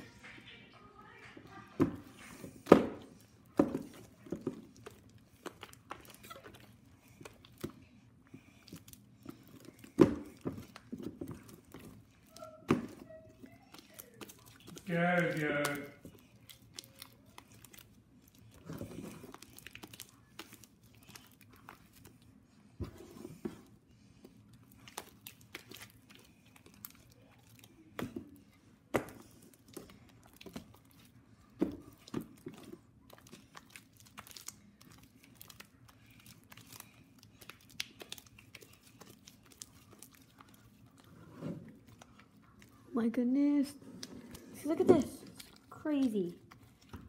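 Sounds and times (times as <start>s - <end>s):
slime squelching and crackling: 1.0s - 47.0s.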